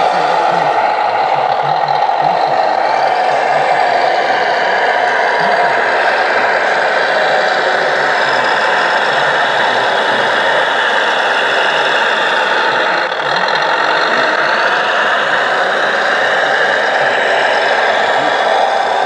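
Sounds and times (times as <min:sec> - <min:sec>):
diesel engine sound: 0:00.0 - 0:19.0.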